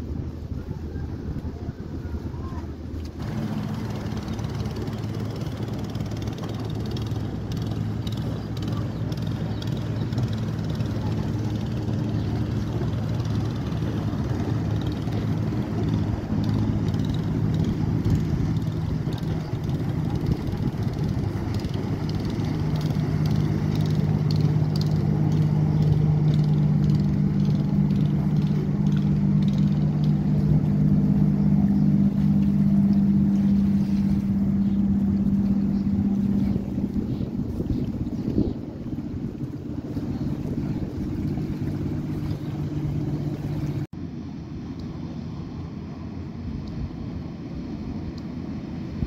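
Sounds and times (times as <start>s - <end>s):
boat engine drone: 0.0s - 49.0s
rush of boat wash: 0.0s - 49.0s
wind: 0.0s - 49.0s.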